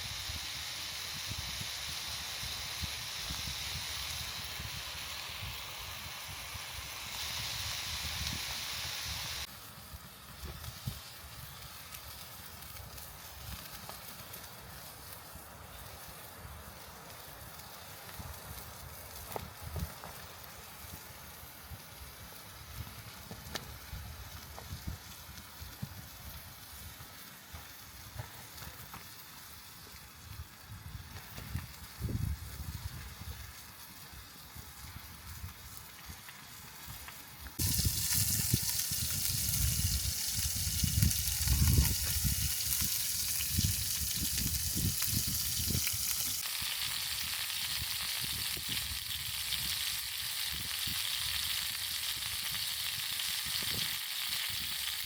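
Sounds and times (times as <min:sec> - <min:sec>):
food sizzling over campfire: 0:00.0 - 0:55.0.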